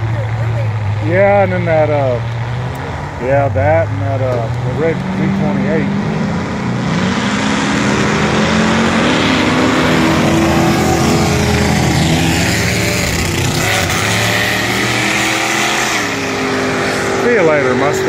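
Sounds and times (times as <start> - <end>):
drag racing engines at full throttle: 0.0 - 18.0.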